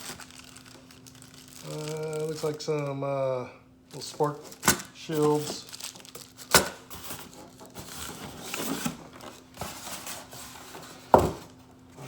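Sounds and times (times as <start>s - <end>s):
packaging rustling: 0.0s - 3.0s, 3.9s - 11.7s.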